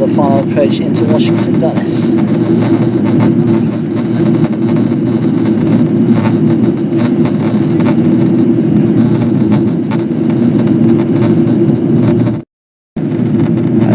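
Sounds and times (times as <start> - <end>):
airplane cabin drone: 0.0 - 12.4, 13.0 - 13.9.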